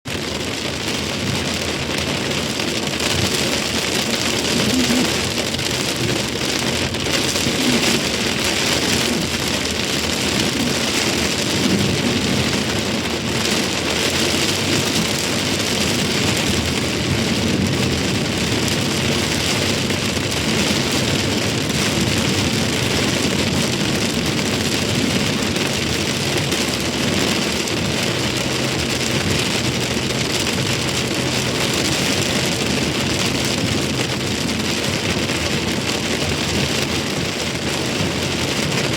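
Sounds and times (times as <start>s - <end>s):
steady rain falling: 0.1s - 38.9s.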